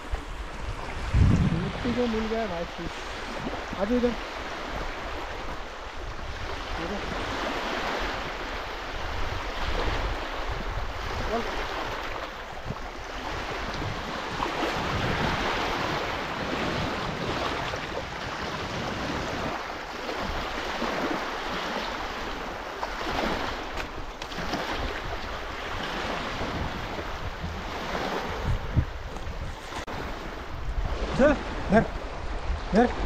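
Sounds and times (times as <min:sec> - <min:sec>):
water sloshing in shallows: 0:00.0 - 0:33.0
wind rumbling on microphone: 0:00.0 - 0:33.0.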